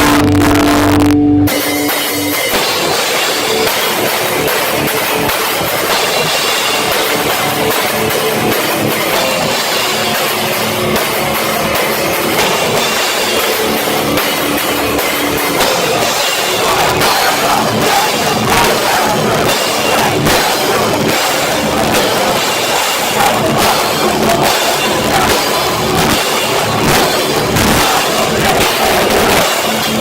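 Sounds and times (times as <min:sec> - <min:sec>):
live heavy rock band: 0:00.0 - 0:30.0.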